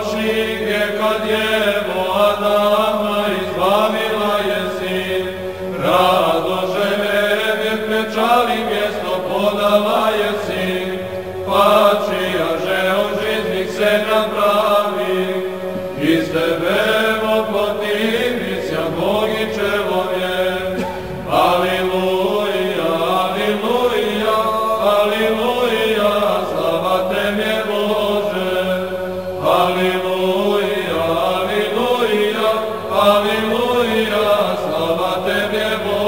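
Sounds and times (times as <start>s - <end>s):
voices chanting slow melody: 0.0s - 36.0s.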